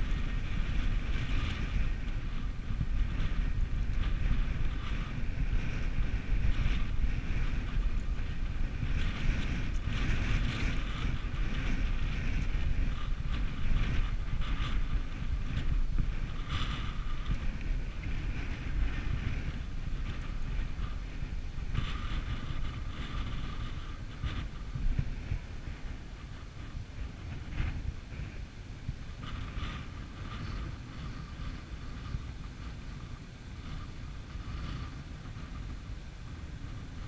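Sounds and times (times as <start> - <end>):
bike tyres rattling over gravel: 0.0 - 37.0
wind buffeting microphone: 0.0 - 37.0.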